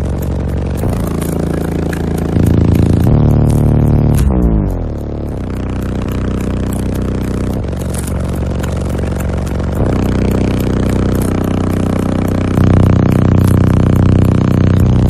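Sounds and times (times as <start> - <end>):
bass-heavy music through car subwoofers: 0.0 - 15.0
rattling: 0.0 - 15.0.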